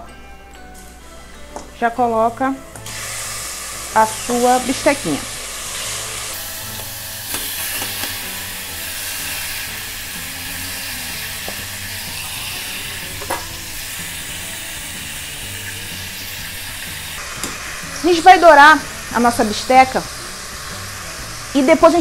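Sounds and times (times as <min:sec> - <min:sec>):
meat sizzling in hot oil: 0:02.8 - 0:22.0.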